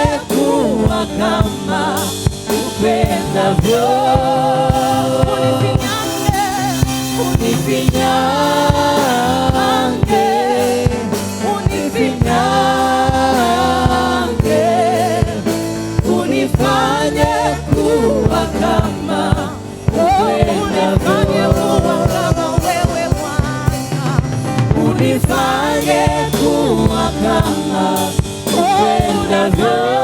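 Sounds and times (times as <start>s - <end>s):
band accompaniment: 0.0s - 30.0s
voices singing held notes: 0.0s - 30.0s.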